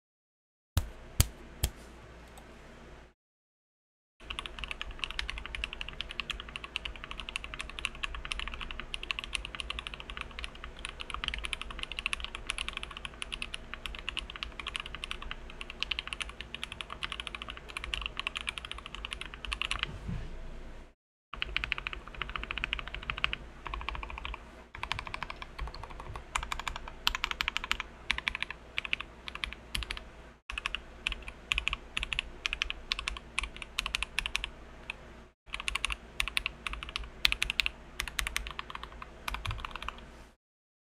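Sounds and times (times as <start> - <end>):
fast mechanical keyboard typing: 4.2 - 19.8, 21.4 - 40.0.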